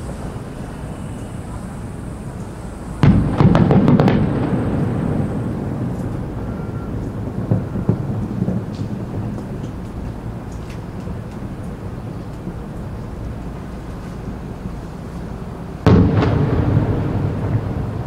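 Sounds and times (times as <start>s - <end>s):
fireworks bangs: 0.0s - 12.6s, 15.7s - 18.0s
rolling rumble: 0.0s - 18.0s.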